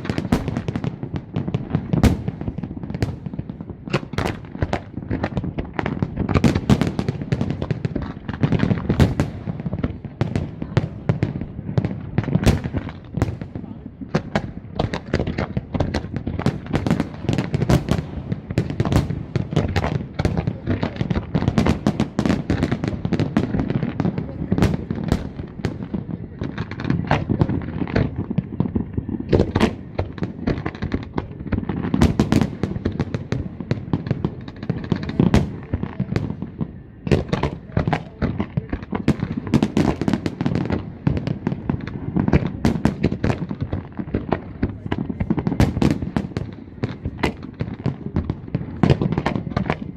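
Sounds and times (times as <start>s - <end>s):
fireworks bursts and crackling: 0.0s - 49.9s.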